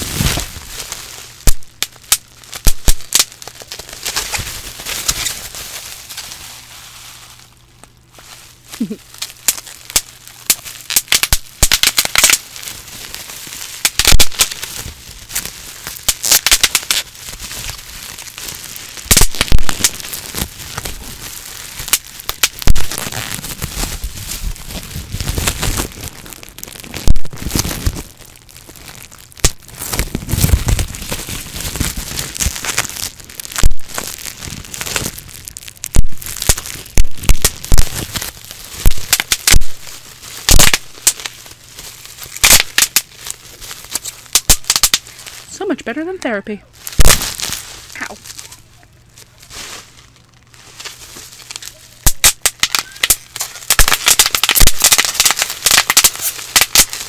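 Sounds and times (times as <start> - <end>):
bubble wrap popping: 0.0 - 57.0
plastic crinkling: 0.0 - 57.0.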